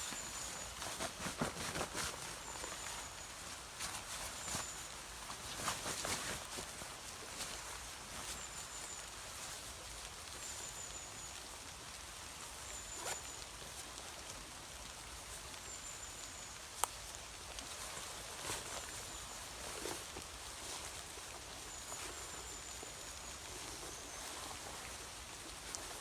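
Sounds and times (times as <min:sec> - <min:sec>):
light rain falling: 0:00.0 - 0:26.0.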